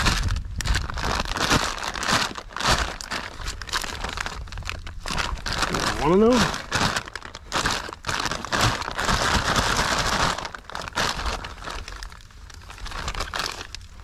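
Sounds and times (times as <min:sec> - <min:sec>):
plastic bag crinkling and rustling: 0:00.0 - 0:14.0.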